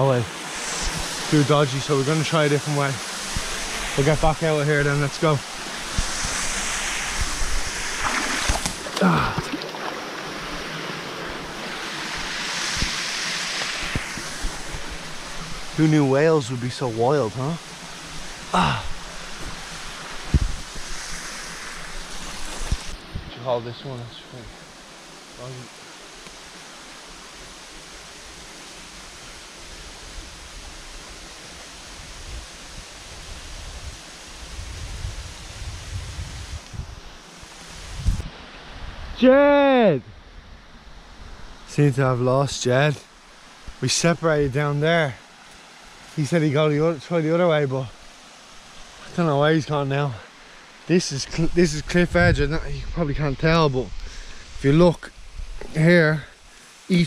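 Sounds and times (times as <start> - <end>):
waterfall and stream rushing: 0.0 - 40.2, 40.8 - 57.0.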